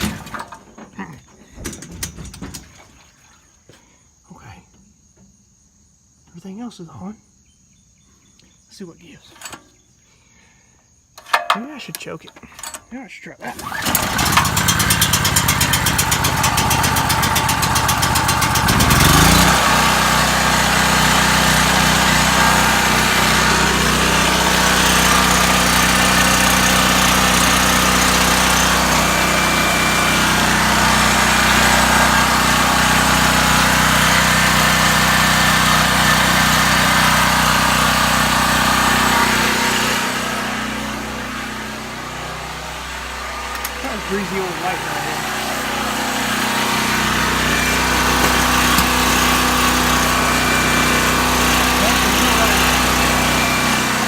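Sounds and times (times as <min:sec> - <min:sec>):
generator engine starting and running: 0:00.0 - 0:02.8, 0:13.4 - 0:54.0.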